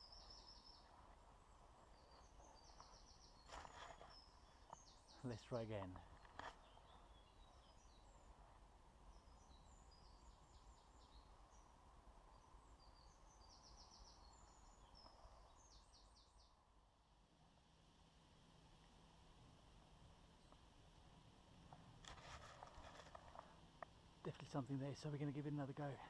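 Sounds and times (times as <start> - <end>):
faint low hum: 0.0 - 26.0
low steady hiss: 0.0 - 26.0
songbirds chirping: 0.0 - 26.0.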